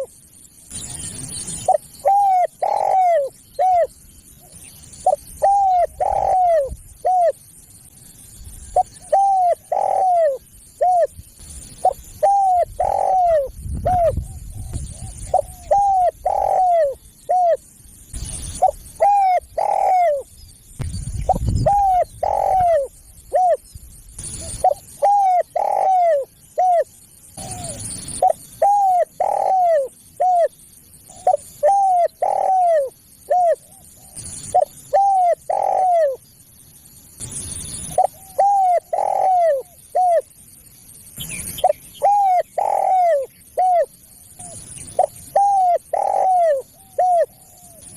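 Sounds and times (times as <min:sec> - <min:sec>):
dove cooing: 0:00.7 - 0:07.4, 0:08.7 - 0:17.6, 0:18.2 - 0:20.3, 0:21.2 - 0:23.6, 0:24.2 - 0:36.2, 0:37.8 - 0:40.3, 0:41.3 - 0:47.9.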